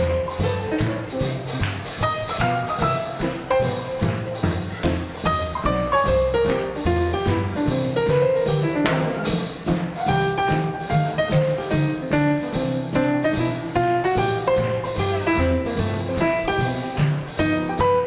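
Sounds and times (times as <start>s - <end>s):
swing band playing: 0.0s - 18.0s.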